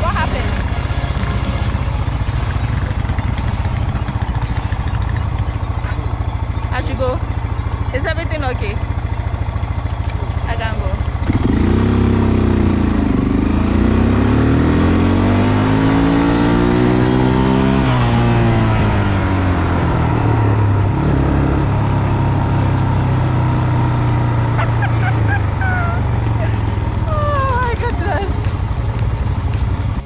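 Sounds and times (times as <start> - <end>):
quad bike engine revving: 0.0 - 30.0.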